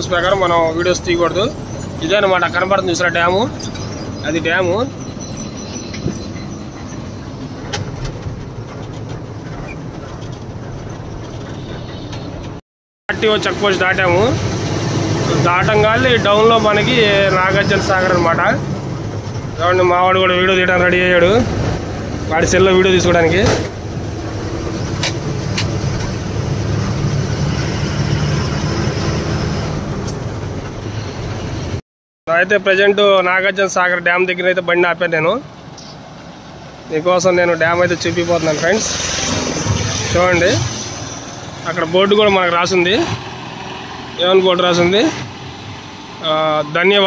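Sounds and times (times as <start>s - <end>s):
lorry engine and road noise: 0.0s - 47.0s.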